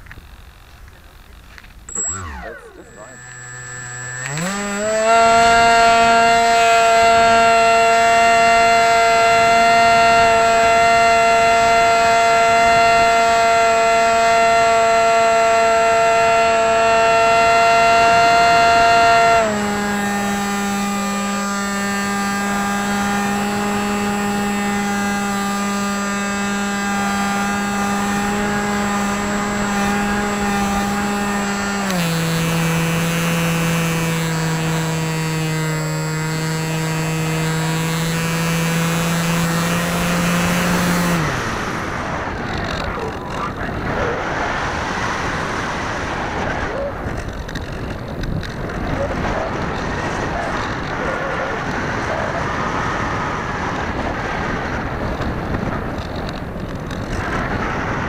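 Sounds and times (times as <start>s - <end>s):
electric motor propeller whine: 0.0s - 58.0s.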